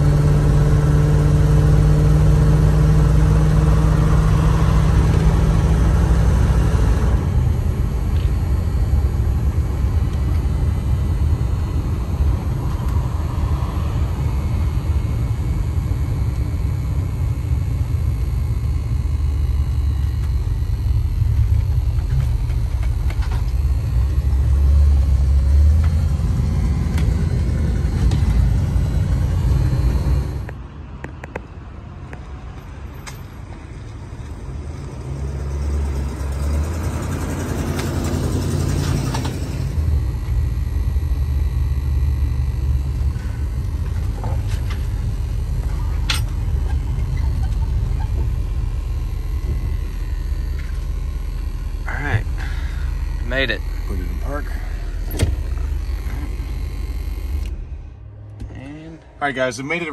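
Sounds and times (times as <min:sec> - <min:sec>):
low engine drone: 0:00.0 - 0:59.9
road noise: 0:00.0 - 0:59.9.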